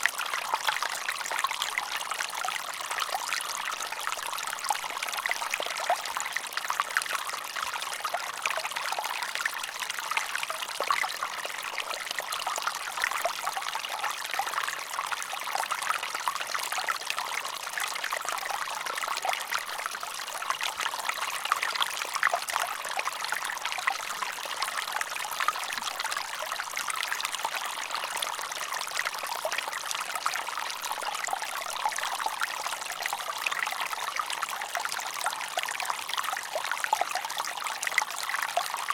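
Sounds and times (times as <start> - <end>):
stream water over rocks: 0.0 - 38.9.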